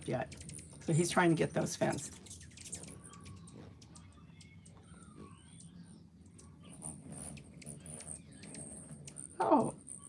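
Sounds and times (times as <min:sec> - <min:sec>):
hummingbirds chirping: 0:00.0 - 0:10.0.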